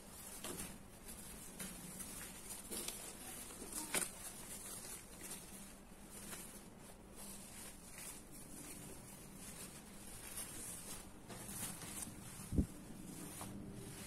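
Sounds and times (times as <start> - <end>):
curtain fabric rustling: 0.0 - 14.0.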